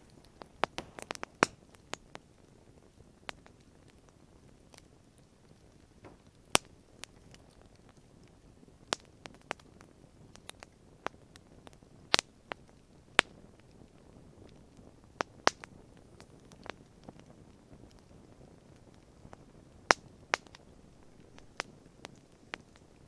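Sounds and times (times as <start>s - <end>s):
campfire crackling: 0.0s - 23.0s
faint low hiss: 0.0s - 23.0s.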